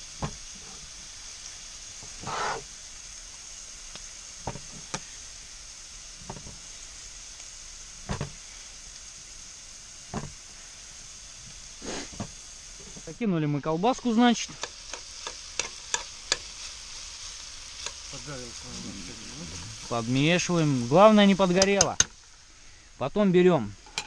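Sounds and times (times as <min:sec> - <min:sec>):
onions frying in oil: 0:00.0 - 0:24.0.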